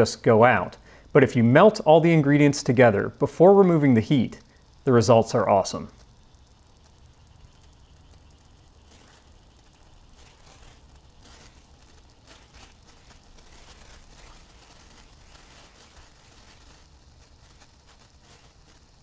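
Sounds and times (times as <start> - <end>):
sparkler crackling: 0.0 - 19.0.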